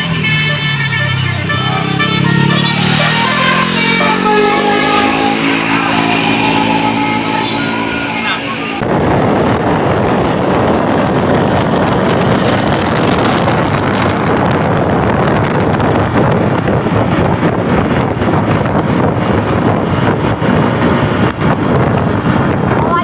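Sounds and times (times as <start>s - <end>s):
vehicle and road noise: 0.0s - 23.0s
wind buffeting microphone: 0.0s - 23.0s.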